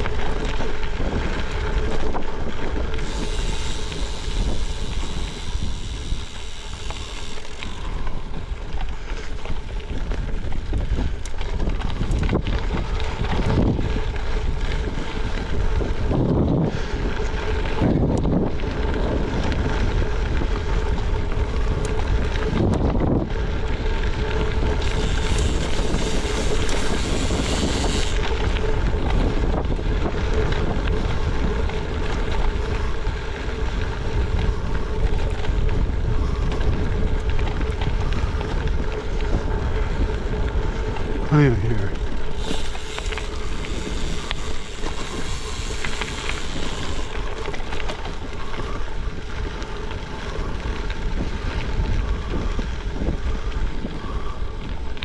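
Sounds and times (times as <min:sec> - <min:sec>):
tyres crunching on gravel: 0:00.0 - 0:16.4, 0:17.0 - 0:51.6
wind buffeting microphone: 0:00.0 - 0:55.0.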